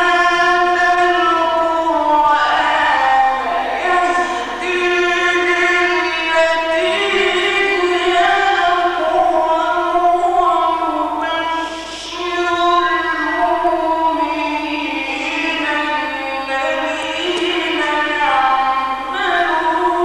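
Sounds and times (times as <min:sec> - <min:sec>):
man chanting recitation: 0:00.0 - 0:20.0.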